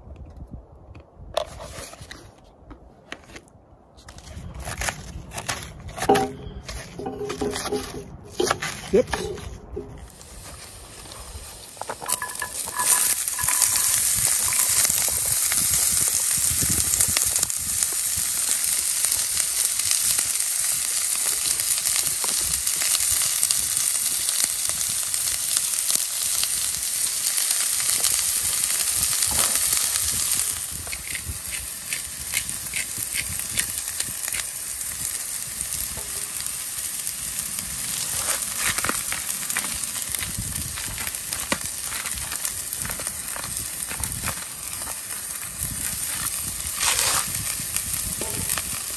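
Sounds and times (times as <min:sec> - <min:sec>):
onions sizzling in hot oil: 0:09.2 - 0:48.9.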